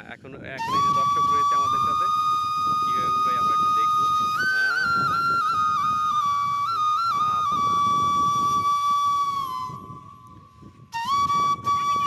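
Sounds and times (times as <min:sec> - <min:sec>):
kite hummer whistling in wind: 0:00.0 - 0:12.0.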